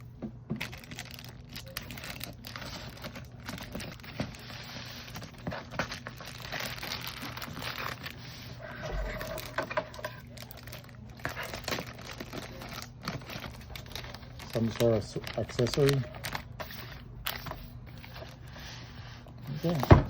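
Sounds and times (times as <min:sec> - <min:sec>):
steady low hum: 0:00.0 - 0:20.0
wrapping crinkling and rustling: 0:00.0 - 0:20.0.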